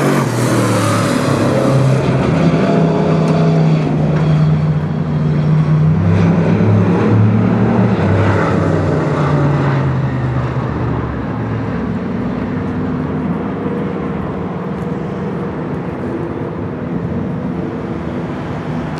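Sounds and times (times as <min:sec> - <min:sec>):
race car engine: 0:00.0 - 0:18.9.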